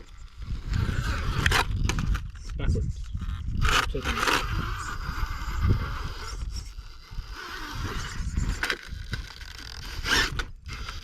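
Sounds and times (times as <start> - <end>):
toy car electric motor whining: 0.0 - 2.5, 3.1 - 11.0
wind buffeting microphone: 0.0 - 11.0.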